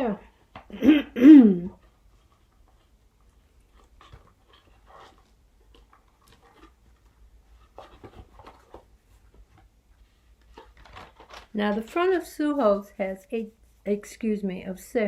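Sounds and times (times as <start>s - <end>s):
paper and cards rustling: 1.7s - 14.3s.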